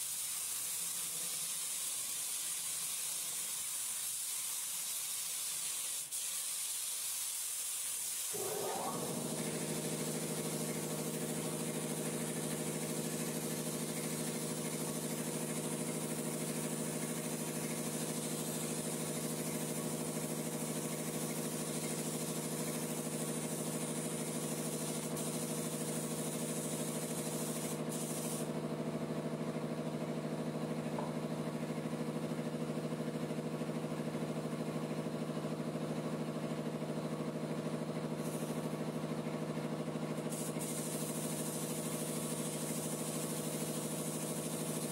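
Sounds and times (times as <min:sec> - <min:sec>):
paint spray gun air hiss: 0:00.0 - 0:28.7, 0:36.6 - 0:44.9.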